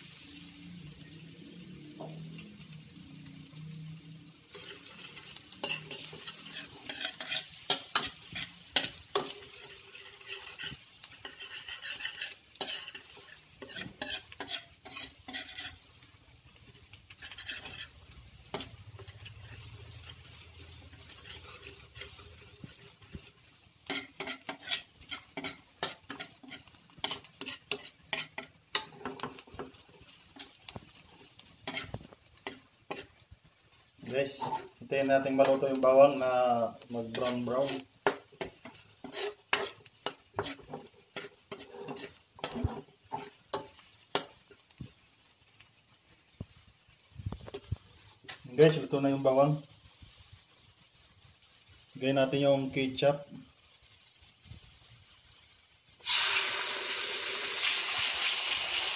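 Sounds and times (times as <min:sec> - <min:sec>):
garlic sizzling in butter: 0:00.0 - 0:58.9
spatula scraping a wok: 0:00.0 - 0:58.9.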